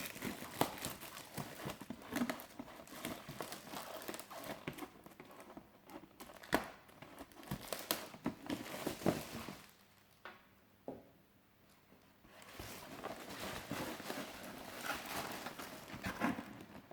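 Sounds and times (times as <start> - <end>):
packaging crinkling and rustling: 0.0 - 10.2, 12.3 - 16.9.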